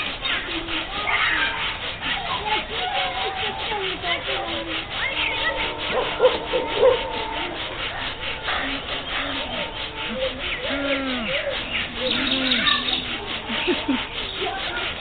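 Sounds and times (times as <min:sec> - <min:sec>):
rapid forceful nose breathing: 0:00.0 - 0:15.0.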